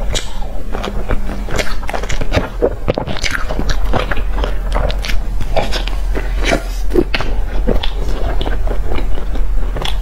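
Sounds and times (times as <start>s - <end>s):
chewing and wet mouth sounds: 0.0s - 10.0s.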